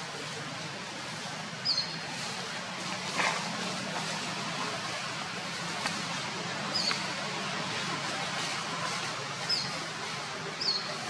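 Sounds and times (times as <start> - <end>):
leaves rustling and crunching: 0.0 - 11.0.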